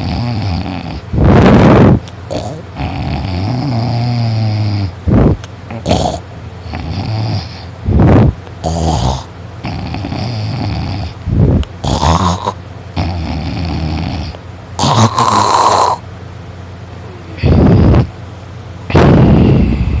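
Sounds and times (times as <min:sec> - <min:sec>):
person snoring loudly: 0:00.0 - 0:11.2, 0:11.8 - 0:16.0, 0:17.4 - 0:18.1, 0:18.9 - 0:20.0.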